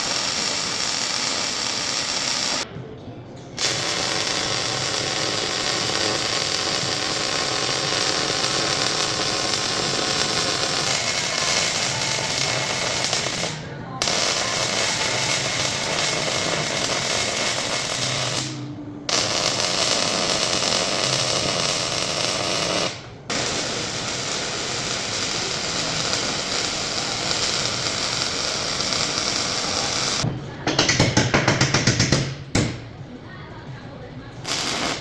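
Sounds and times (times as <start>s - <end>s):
welding arc crackling: 0.0s - 2.7s, 3.6s - 30.2s, 34.4s - 35.0s.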